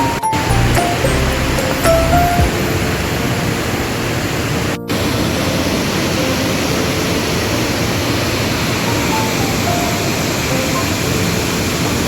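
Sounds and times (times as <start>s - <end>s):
faint background music: 0.0s - 12.0s
river water rushing: 0.3s - 12.0s.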